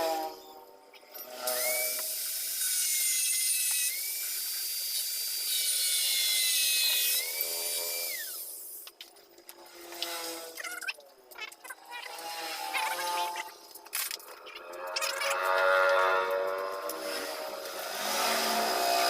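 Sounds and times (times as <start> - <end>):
power tool whining: 0.0 - 8.9, 9.5 - 10.8, 11.6 - 19.0.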